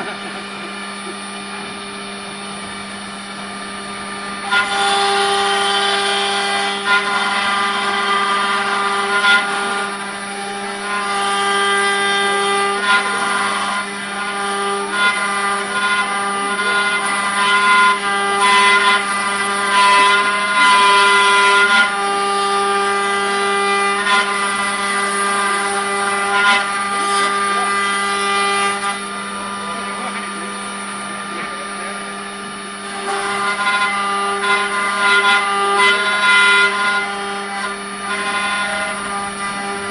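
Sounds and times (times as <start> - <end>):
even hum: 0.0 - 39.9
router bit cutting wood: 0.0 - 39.9
router spindle whine: 0.0 - 39.9.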